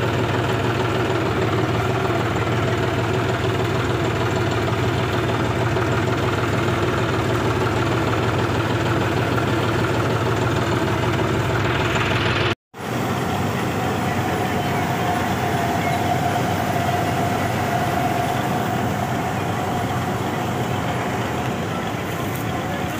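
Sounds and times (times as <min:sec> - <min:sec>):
combine harvester running: 0:00.0 - 0:22.9
steady whine: 0:00.0 - 0:22.9
tractor diesel engine running: 0:00.0 - 0:22.9.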